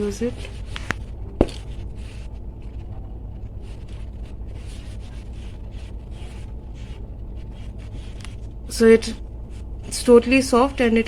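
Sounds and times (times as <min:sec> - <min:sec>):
fabric rustling: 0:00.0 - 0:11.0
steady low hum: 0:00.0 - 0:11.0.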